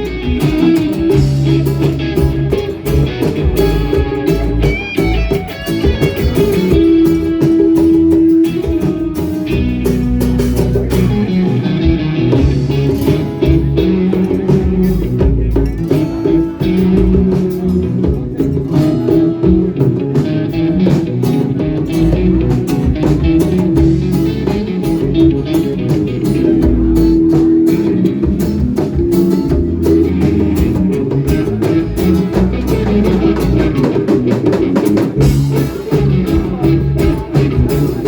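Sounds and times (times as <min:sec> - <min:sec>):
bass line: 0:00.0 - 0:38.0
drum kit: 0:00.0 - 0:38.0
guitar: 0:00.0 - 0:38.0.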